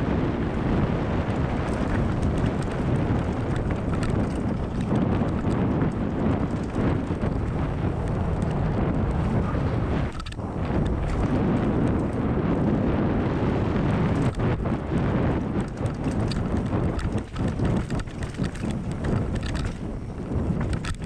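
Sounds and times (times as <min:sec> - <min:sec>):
bike knocks and rattles: 0:00.0 - 0:21.0
wind buffeting microphone: 0:00.0 - 0:21.0.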